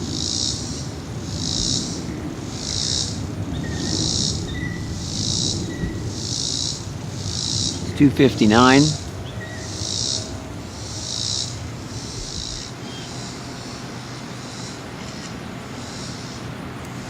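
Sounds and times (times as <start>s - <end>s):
insect buzzing in pulses: 0.0s - 16.6s
low background rumble: 0.0s - 17.0s.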